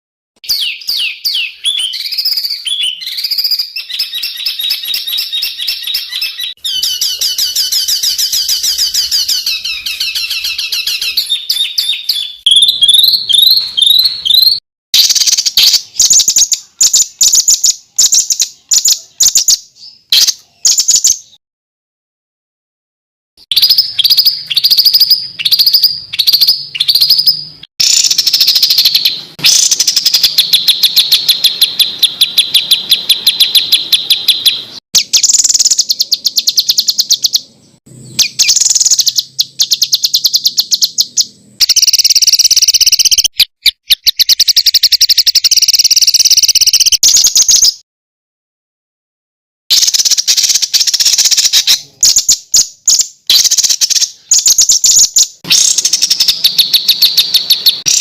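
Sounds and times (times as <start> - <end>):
songbird chattering trills: 0.5 - 21.4, 23.5 - 47.8, 49.7 - 58.0.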